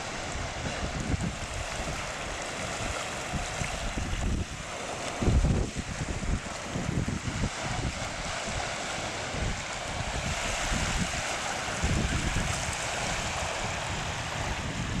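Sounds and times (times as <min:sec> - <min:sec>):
sea surf breaking on rocks: 0:00.0 - 0:15.0
wind buffeting microphone: 0:00.0 - 0:15.0.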